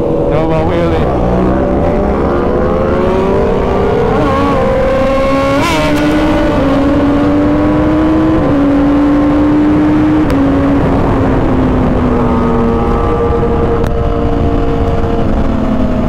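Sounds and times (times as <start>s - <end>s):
motorcycle engine accelerating: 0.0s - 16.0s
steady rushing noise: 0.0s - 16.0s.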